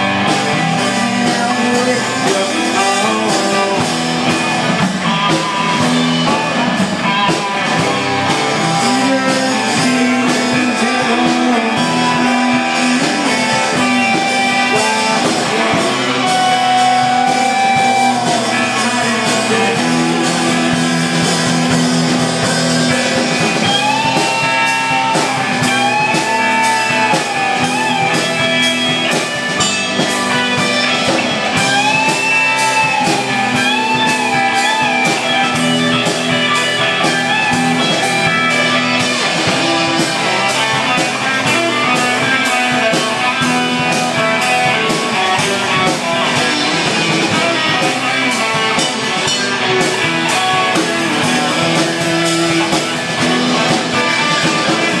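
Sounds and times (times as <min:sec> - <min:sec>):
drum kit steady beat: 0:00.0 - 0:55.0
electric guitars: 0:00.0 - 0:55.0.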